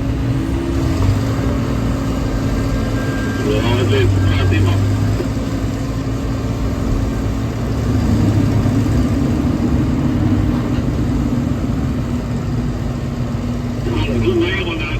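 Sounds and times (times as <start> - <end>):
heavy machine engine revving: 0.0 - 14.9.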